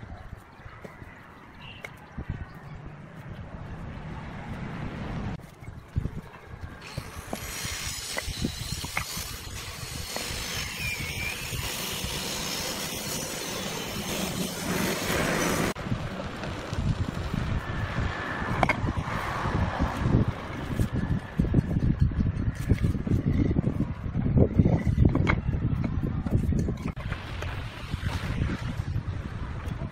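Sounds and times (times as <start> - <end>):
outdoor background noise: 0.0 - 29.9.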